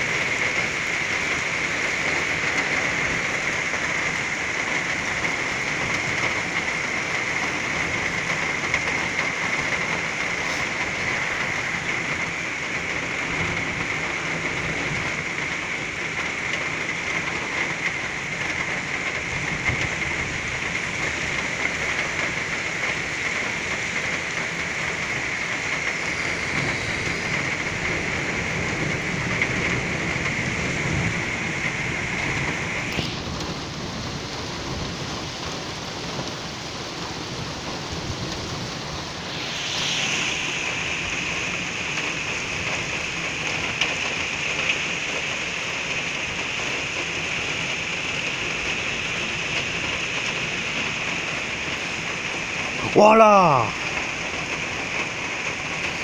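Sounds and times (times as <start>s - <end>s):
thunder rumble: 0.0s - 45.5s
heavy rain pouring: 0.0s - 56.0s.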